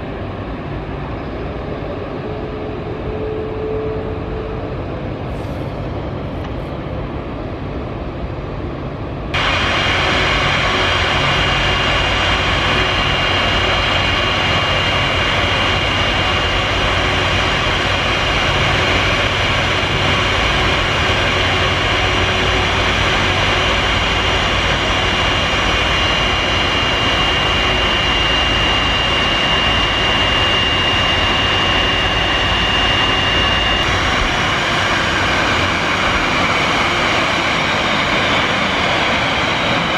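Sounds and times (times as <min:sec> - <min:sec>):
jet airliner rush and whine: 0:00.0 - 0:39.9.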